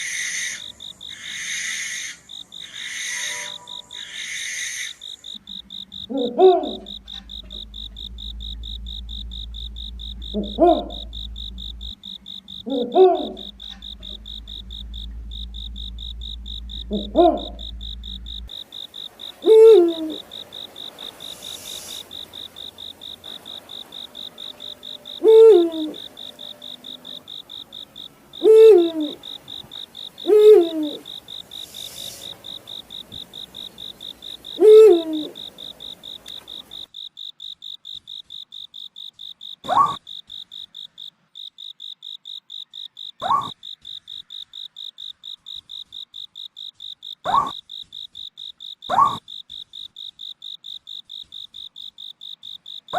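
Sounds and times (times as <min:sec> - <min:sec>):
owl hooting: 0:00.0 - 0:36.9, 0:38.9 - 0:41.0, 0:41.6 - 0:47.7, 0:48.8 - 0:49.5
cricket chirping: 0:00.0 - 0:52.9.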